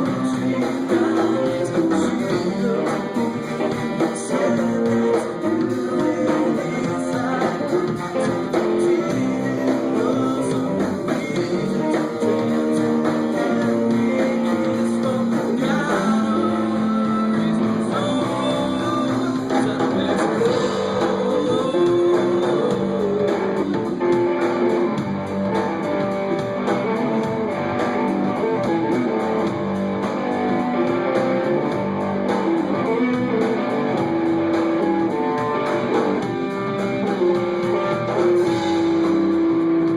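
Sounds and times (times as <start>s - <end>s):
guitar: 0.0s - 39.9s
live band playing: 0.0s - 39.9s.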